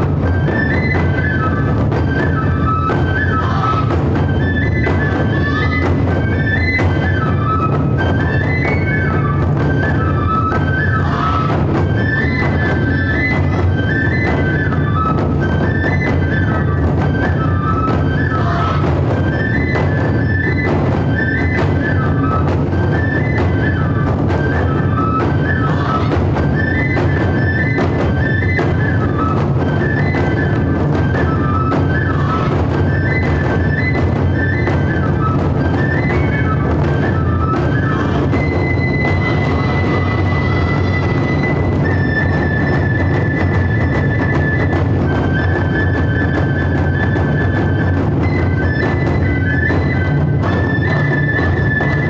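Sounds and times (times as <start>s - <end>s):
bamboo flute melody: 0.0s - 52.0s
taiko drums beating: 0.0s - 52.0s.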